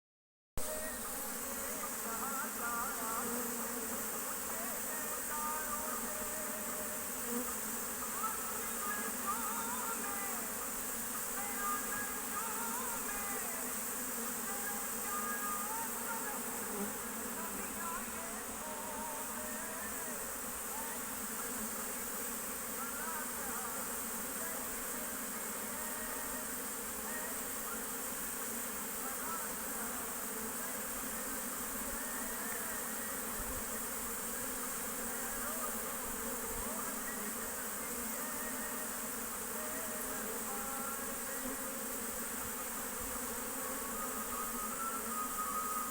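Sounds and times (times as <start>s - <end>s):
bees buzzing in a swarm: 0.6s - 45.9s.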